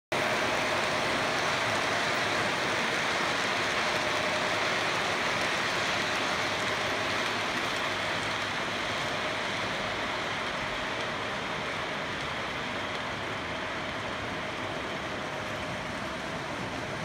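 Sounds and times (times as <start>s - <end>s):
model train wheels rolling on rails: 0.2s - 17.0s.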